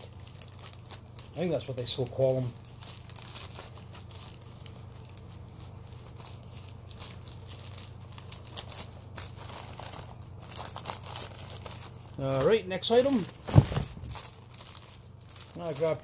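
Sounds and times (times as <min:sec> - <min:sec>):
low steady hum: 0:00.0 - 0:16.0
packaging crinkling: 0:00.0 - 0:16.0.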